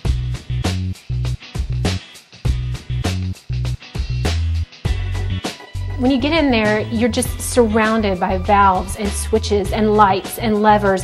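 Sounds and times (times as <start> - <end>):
funk music with bass and drums: 0.0 - 11.0.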